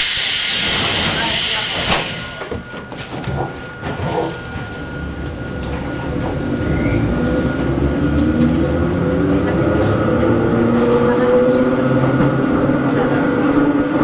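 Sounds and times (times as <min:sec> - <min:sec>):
train rumbling over rails: 0:00.0 - 0:14.0.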